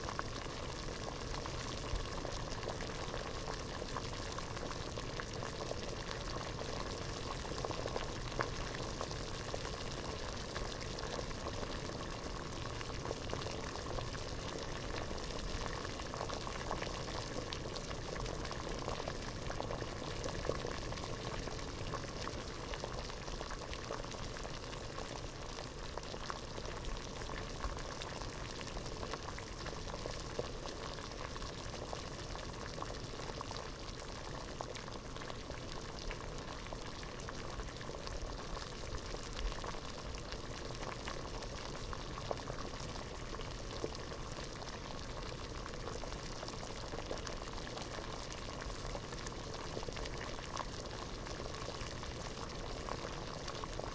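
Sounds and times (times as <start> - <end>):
water boiling in a pot: 0.0 - 53.9.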